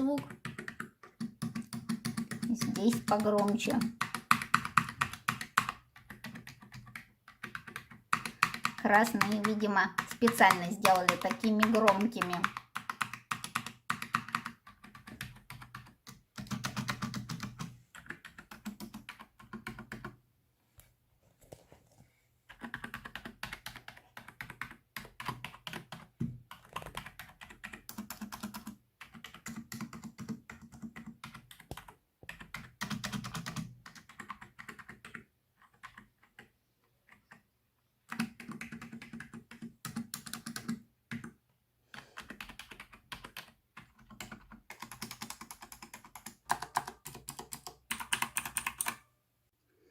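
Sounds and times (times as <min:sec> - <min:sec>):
mechanical keyboard typing: 0:00.0 - 0:20.2, 0:22.5 - 0:37.4, 0:38.1 - 0:49.1.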